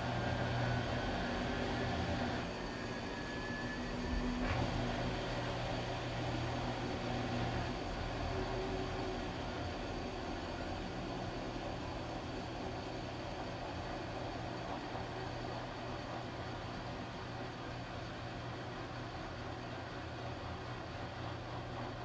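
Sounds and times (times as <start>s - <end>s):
washing machine hum: 0.0s - 22.0s.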